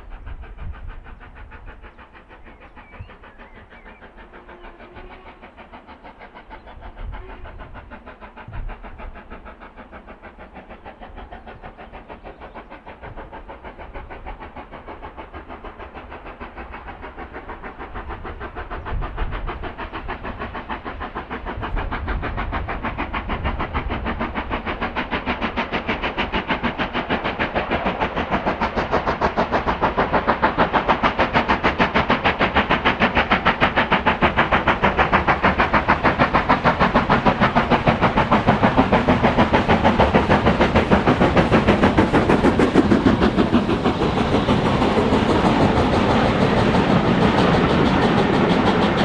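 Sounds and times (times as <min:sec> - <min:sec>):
steam locomotive chuffing: 0:00.0 - 0:49.0.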